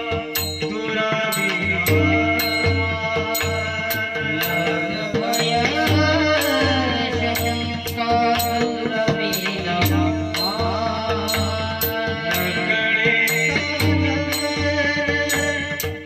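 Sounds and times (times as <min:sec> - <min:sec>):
hand drum playing: 0:00.0 - 0:16.0
person singing: 0:00.0 - 0:16.0.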